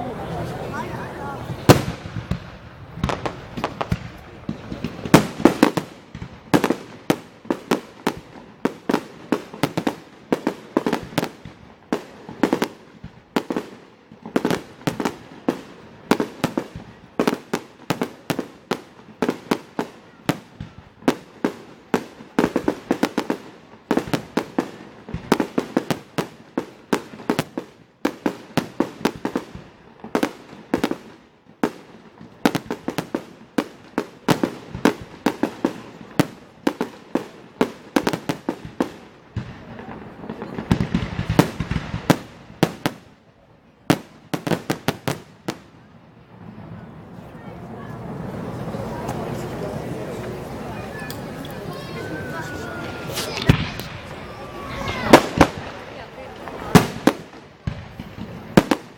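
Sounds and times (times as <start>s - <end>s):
fireworks bangs with echo: 0.0s - 58.9s.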